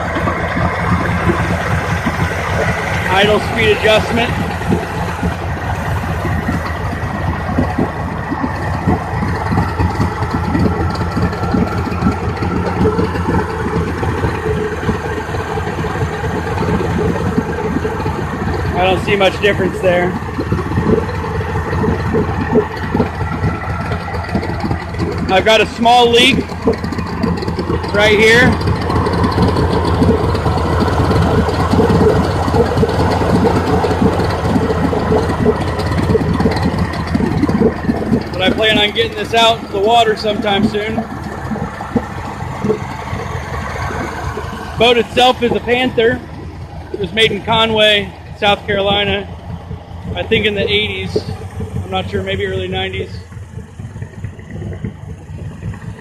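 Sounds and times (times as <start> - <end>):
outboard motor idling: 0.0 - 56.0.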